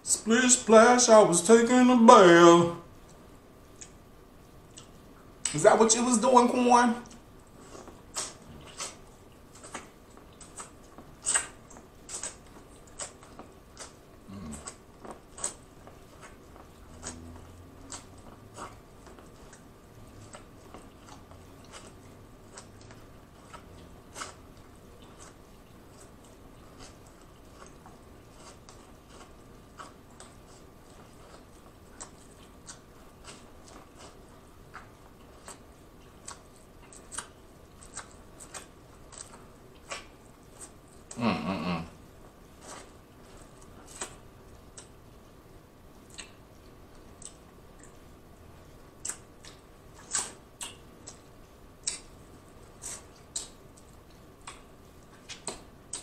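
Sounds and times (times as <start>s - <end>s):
chewing corn on the cob: 4.6s - 6.1s, 7.0s - 56.0s.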